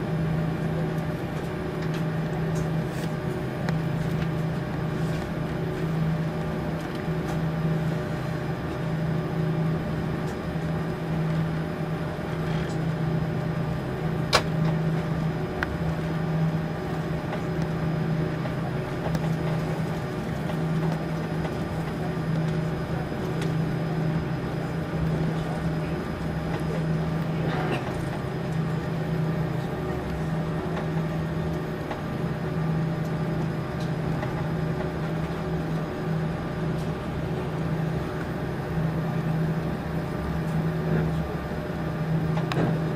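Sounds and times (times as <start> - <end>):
aircraft engines humming in cabin: 0.0 - 42.9.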